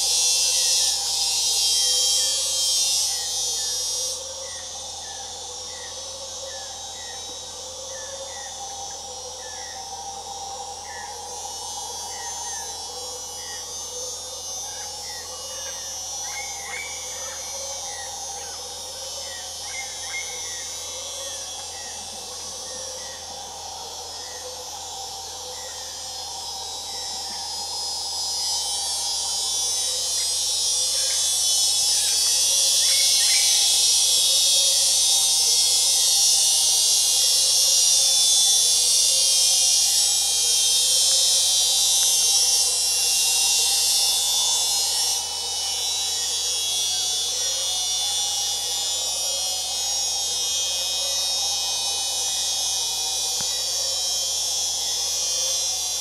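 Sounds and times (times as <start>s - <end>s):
insects shrilling and chirping: 0.0s - 56.0s
low insect drone: 0.0s - 56.0s.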